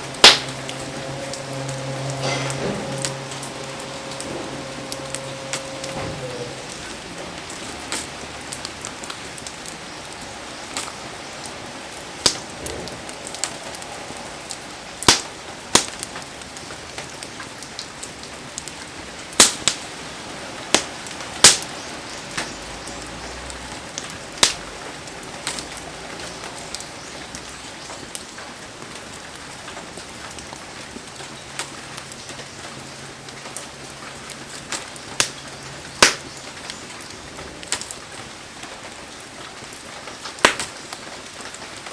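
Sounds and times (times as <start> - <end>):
fire popping: 0.0 - 41.9
heavy rain hissing: 0.0 - 41.9
wood fire burning: 0.0 - 41.9.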